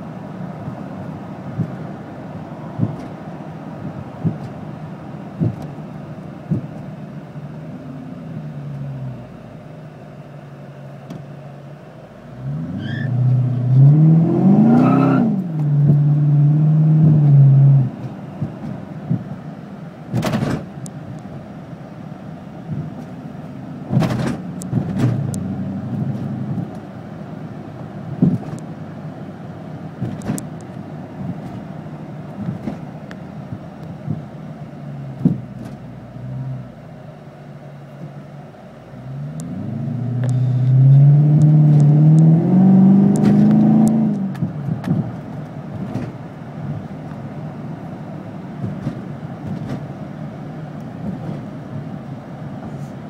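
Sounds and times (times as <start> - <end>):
car engine cruising and accelerating: 0.0 - 53.0.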